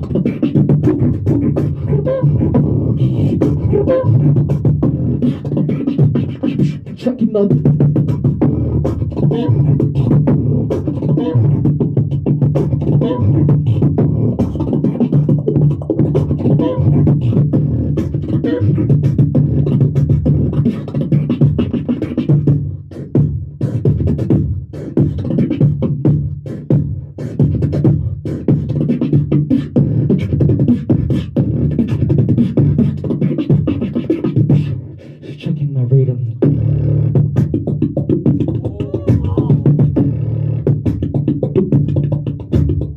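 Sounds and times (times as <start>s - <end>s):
low vocal bass line: 0.0s - 42.9s
person beatboxing into microphone: 0.0s - 42.9s.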